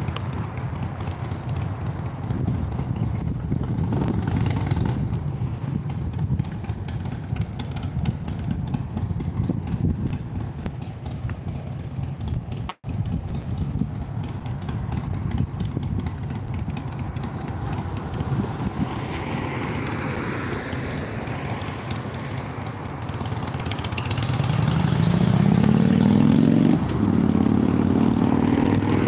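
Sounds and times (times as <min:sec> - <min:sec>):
low rumble of traffic: 0:00.0 - 0:29.0
vehicle engine accelerating: 0:00.0 - 0:29.0.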